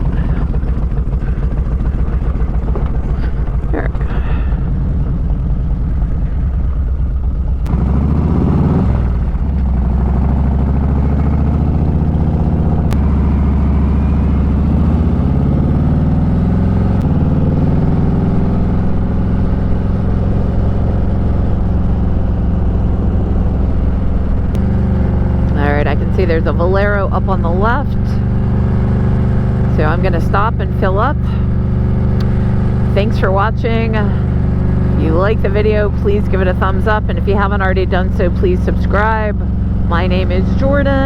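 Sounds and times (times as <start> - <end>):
motorcycle engine changing gear: 0.0 - 41.0.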